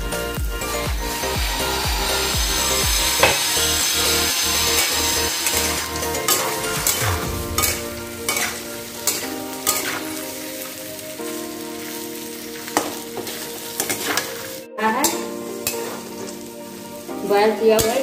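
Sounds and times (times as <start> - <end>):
potatoes sizzling in a pan: 0.6 - 7.0, 8.2 - 18.0.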